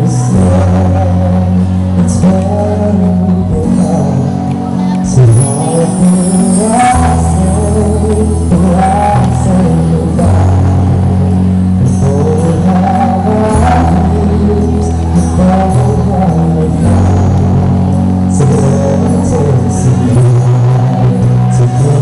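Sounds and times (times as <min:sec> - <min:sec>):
held bass notes: 0:00.0 - 0:22.0
moving melody: 0:00.0 - 0:22.0.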